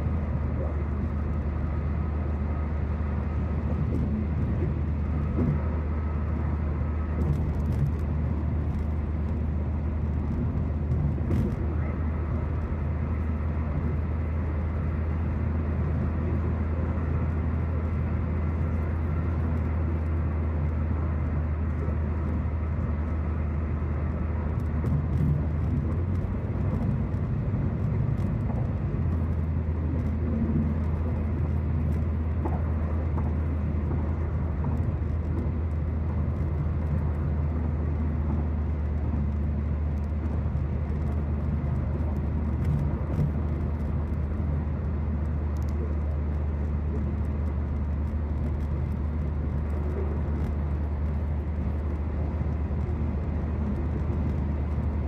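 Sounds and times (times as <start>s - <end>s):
engine drone inside car: 0.0s - 55.0s.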